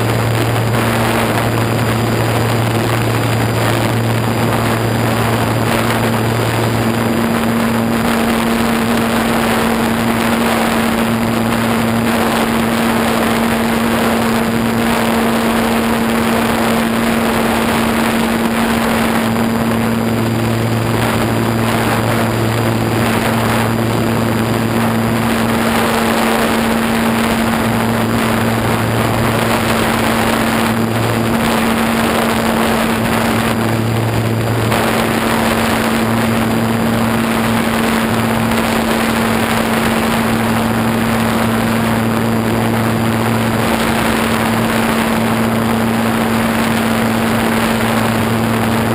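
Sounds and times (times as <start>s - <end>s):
low hum: 0.0s - 48.9s
model airplane motor droning: 0.0s - 48.9s
wind rushing over microphone: 0.0s - 48.9s.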